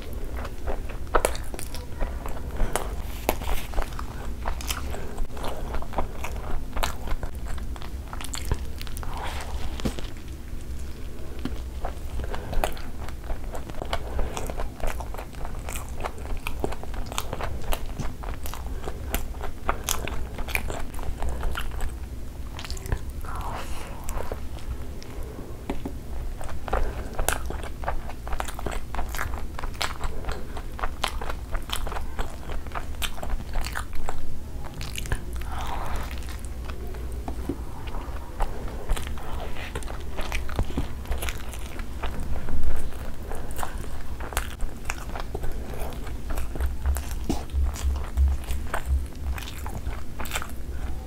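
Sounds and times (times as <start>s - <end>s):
low hum: 0.0s - 28.4s, 34.0s - 51.0s
biting and chewing food: 0.0s - 51.0s.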